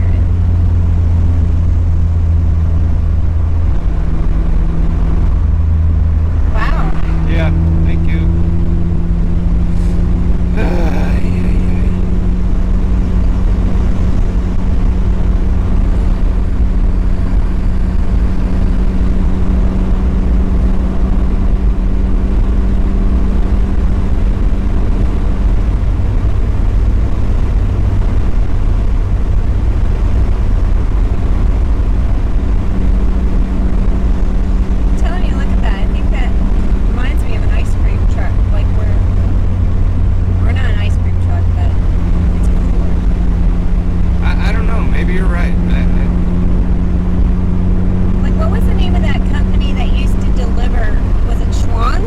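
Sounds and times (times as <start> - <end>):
car engine cruising: 0.0 - 52.0
road and wind noise: 0.0 - 52.0.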